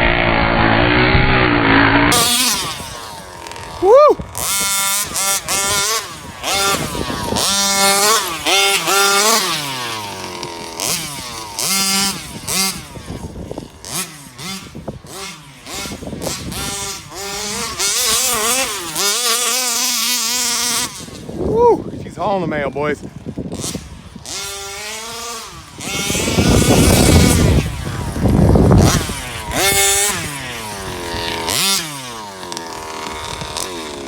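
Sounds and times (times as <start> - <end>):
two-stroke engine revving: 0.0 - 21.6, 22.2 - 34.0.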